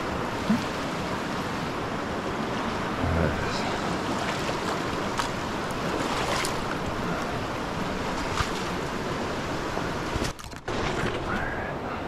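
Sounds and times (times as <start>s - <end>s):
rushing mountain creek: 0.0s - 12.0s.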